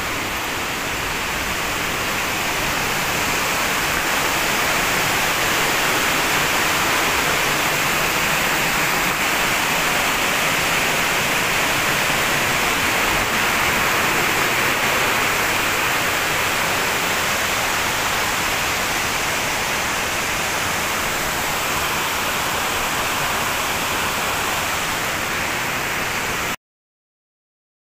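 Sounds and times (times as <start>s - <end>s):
steady rushing noise: 0.0s - 26.6s.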